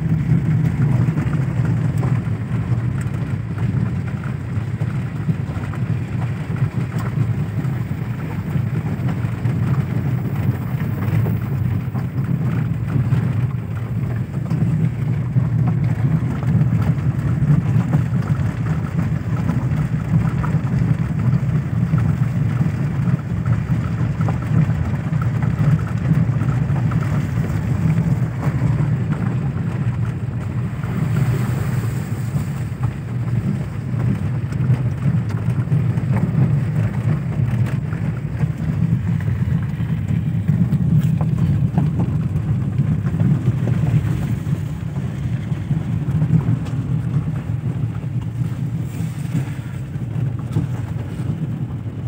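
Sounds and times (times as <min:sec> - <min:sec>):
car engine and road rumble: 0:00.0 - 0:52.0.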